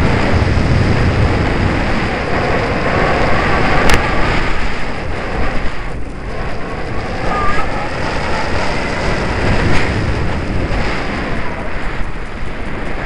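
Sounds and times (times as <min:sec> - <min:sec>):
airflow rushing over microphone: 0:00.0 - 0:13.0.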